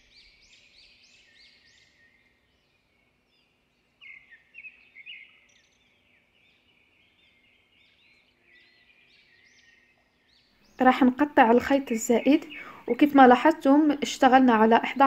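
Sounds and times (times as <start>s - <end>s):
birds chirping: 0.0s - 15.0s
faint steady hum: 0.0s - 15.0s.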